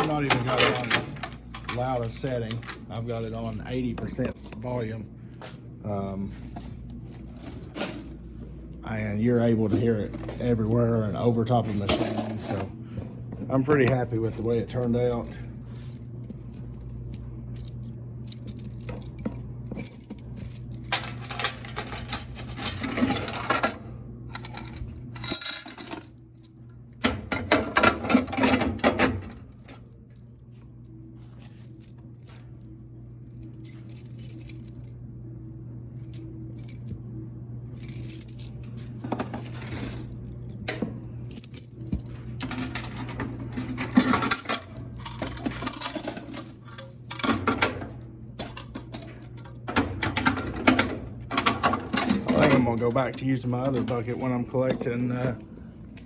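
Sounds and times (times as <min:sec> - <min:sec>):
coins clinking and rattling: 0:00.0 - 0:04.3, 0:06.3 - 0:08.4, 0:09.0 - 0:12.7, 0:13.8 - 0:26.7, 0:27.3 - 0:35.0, 0:35.9 - 0:36.9, 0:37.7 - 0:56.0
keys jangling: 0:00.0 - 0:04.3, 0:06.3 - 0:08.3, 0:09.0 - 0:12.7, 0:14.8 - 0:26.7, 0:29.4 - 0:35.0, 0:37.7 - 0:56.0
steady low hum: 0:00.0 - 0:56.0.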